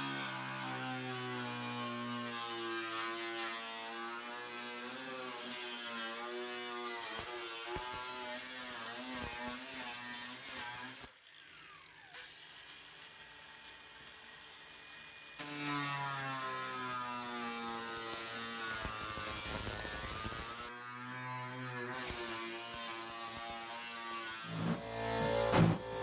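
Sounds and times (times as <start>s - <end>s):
angle grinder cutting metal: 0.0s - 26.0s.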